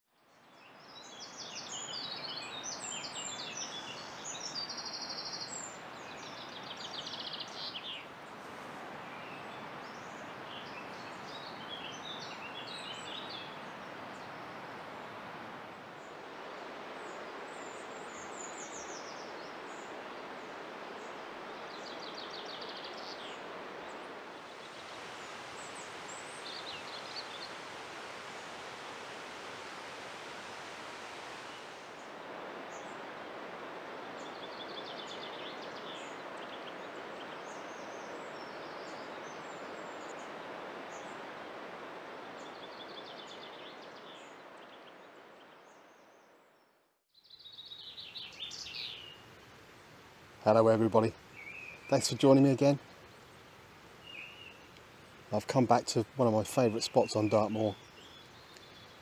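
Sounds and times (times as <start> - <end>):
songbirds trilling: 0.6 - 30.5, 31.2 - 46.2, 47.2 - 59.0.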